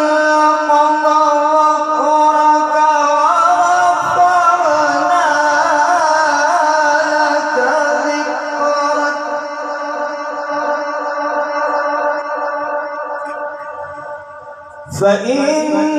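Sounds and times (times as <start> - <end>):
man reciting melodically over loudspeaker: 0.0 - 15.9.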